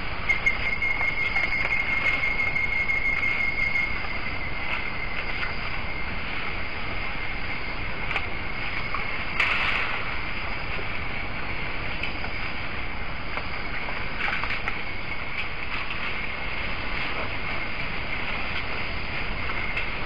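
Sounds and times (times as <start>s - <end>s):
night insect chorus: 0.0s - 20.0s.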